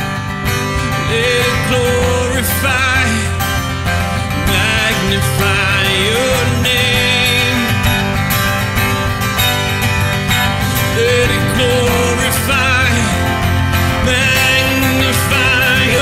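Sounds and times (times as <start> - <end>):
acoustic guitar: 0.0 - 16.0
steady low bass: 0.0 - 16.0
man singing: 0.6 - 8.5, 10.4 - 16.0.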